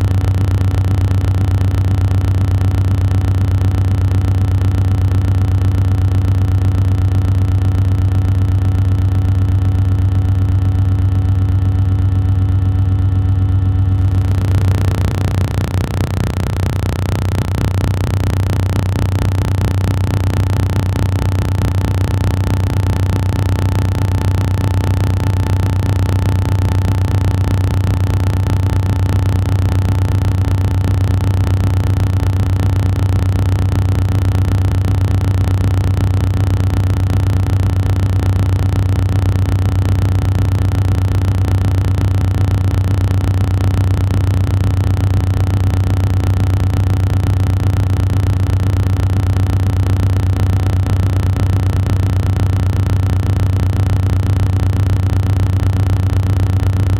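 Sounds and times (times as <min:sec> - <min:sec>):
loud low-pitched hum: 0:00.0 - 0:56.9.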